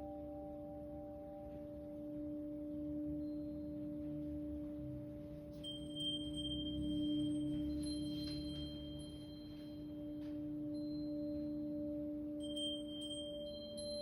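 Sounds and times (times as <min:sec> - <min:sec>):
crystal singing bowl ringing: 0:00.0 - 0:14.0
faint high ringing tones: 0:00.0 - 0:14.0.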